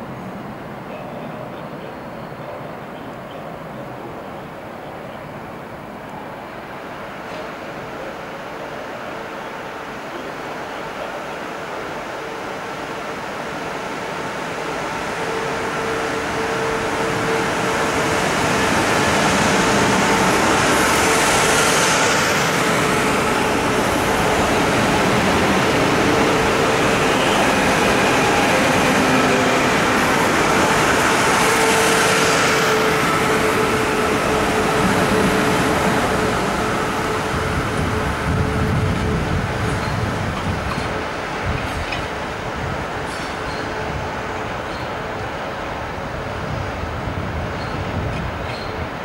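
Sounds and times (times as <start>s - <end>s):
electric train rumble and hiss: 0.0s - 49.0s.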